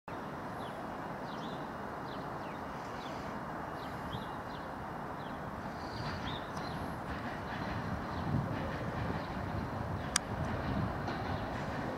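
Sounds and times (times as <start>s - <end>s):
small birds chirping: 0.1s - 11.8s.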